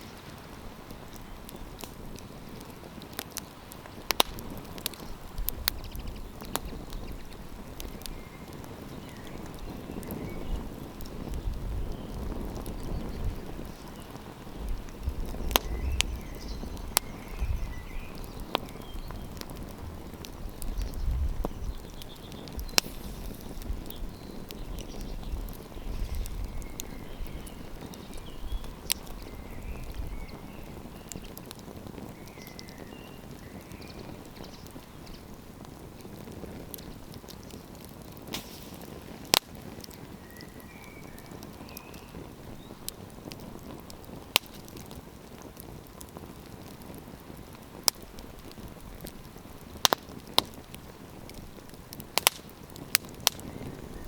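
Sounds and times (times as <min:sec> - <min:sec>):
campfire crackling and popping: 0:00.0 - 0:54.0
wind rumbling on microphone: 0:00.0 - 0:54.0.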